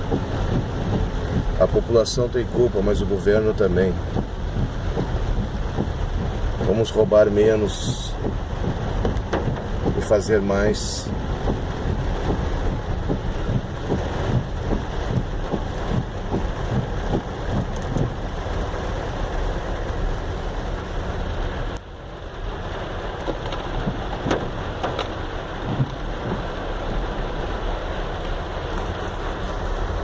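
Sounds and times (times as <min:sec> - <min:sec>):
car engine: 0:00.0 - 0:30.0
heavy rain and water: 0:00.0 - 0:30.0.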